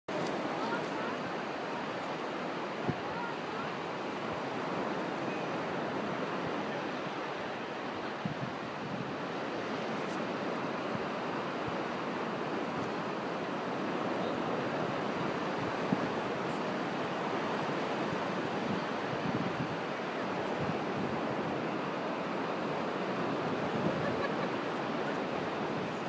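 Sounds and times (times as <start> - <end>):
surf washing: 0.1 - 26.0
wind on microphone: 0.1 - 26.0.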